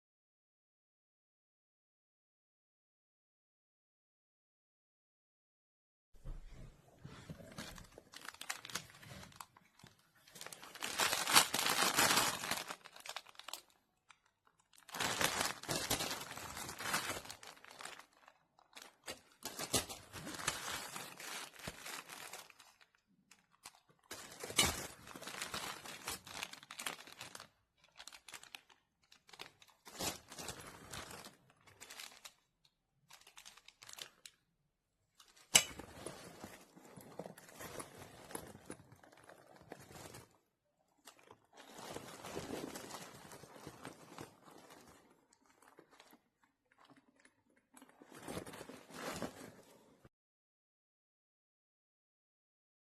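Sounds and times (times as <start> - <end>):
crinkling and rustling: 6.2 - 34.4, 35.1 - 50.1.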